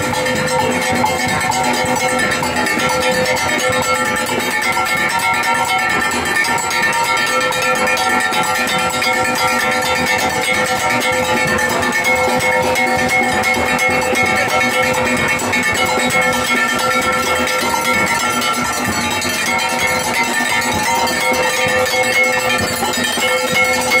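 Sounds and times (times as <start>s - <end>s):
clanging metal percussion: 0.0s - 24.0s
steel pans playing melody: 0.0s - 24.0s.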